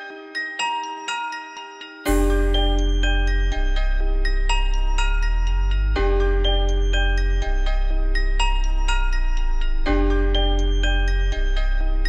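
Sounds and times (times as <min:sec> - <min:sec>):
bell-like mallet melody: 0:00.0 - 0:12.0
heavy bass: 0:02.1 - 0:12.0.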